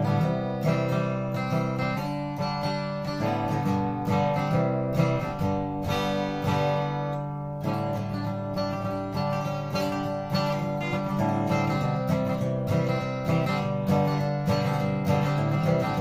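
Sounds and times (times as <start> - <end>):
acoustic guitar strummed in chords: 0.0 - 16.0.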